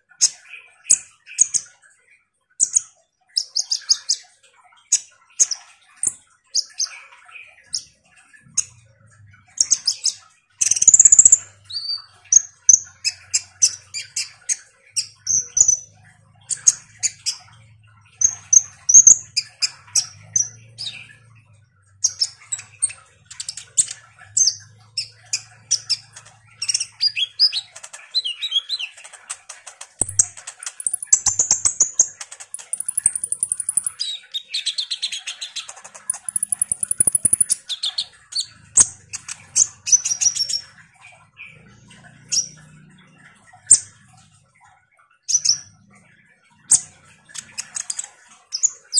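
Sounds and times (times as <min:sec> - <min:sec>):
bird chirping and twittering: 0:00.0 - 0:48.9.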